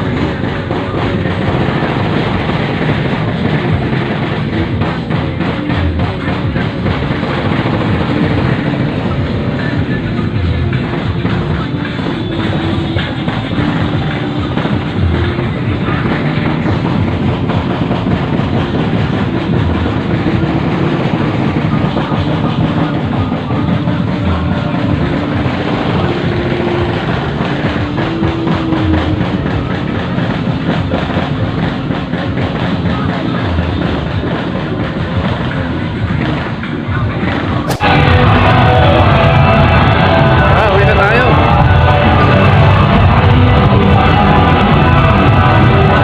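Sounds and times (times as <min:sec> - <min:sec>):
loud music with low beat: 0:00.0 - 0:46.0.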